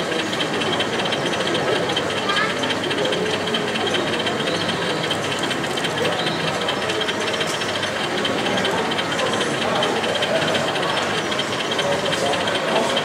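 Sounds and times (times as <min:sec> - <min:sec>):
crowd chattering: 0:00.0 - 0:13.0
model train rattling: 0:00.0 - 0:13.0.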